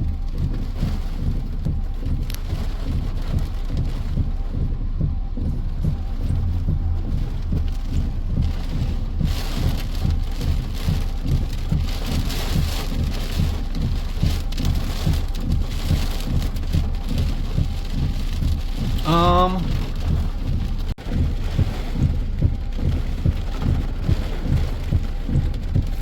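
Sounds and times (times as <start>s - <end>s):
heavy rain drumming: 0.0s - 26.0s.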